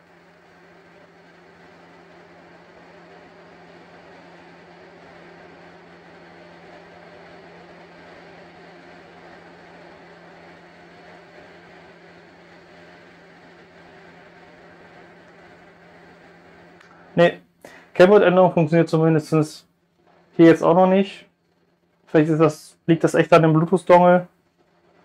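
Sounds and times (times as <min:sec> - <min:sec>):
low buzzing hum: 0:00.0 - 0:25.0.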